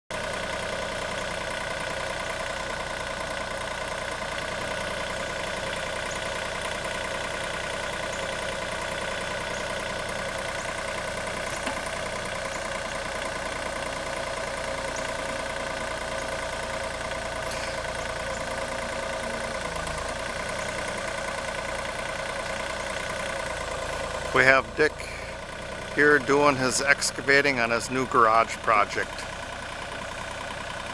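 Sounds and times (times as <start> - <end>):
diesel engine running: 0.1 - 30.9.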